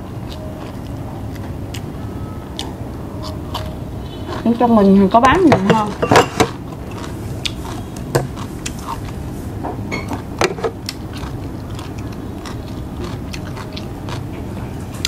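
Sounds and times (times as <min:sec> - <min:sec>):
person chewing food: 0:00.0 - 0:04.9, 0:06.5 - 0:15.0
steady low hum: 0:00.0 - 0:15.0.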